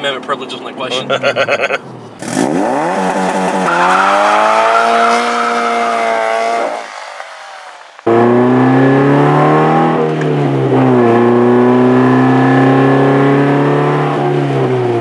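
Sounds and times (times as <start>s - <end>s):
car accelerating: 0.7s - 15.0s.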